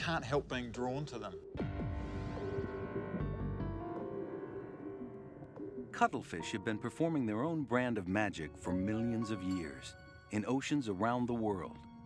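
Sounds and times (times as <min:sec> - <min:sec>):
sustained chord music: 0:01.6 - 0:12.0.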